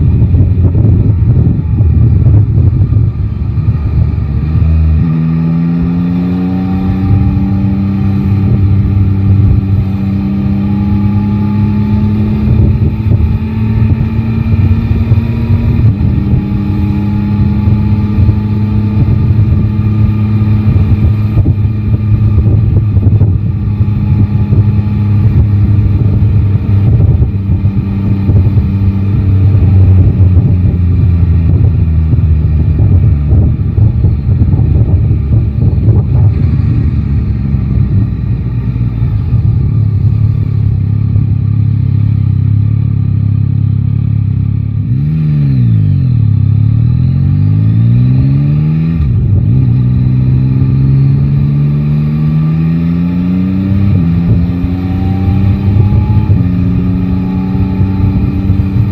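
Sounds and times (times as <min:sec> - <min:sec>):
wind buffeting microphone: 0:00.0 - 0:41.6, 0:47.8 - 0:58.9
motorcycle engine running: 0:00.0 - 0:58.9.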